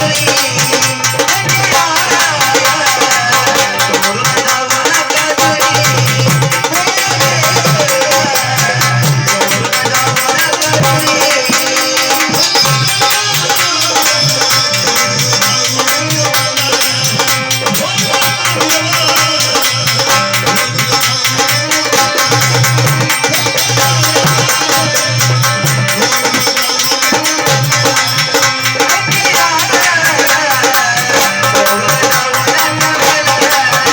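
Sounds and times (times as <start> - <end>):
hand drums beating: 0.0 - 33.9
jingling percussion: 0.0 - 33.9.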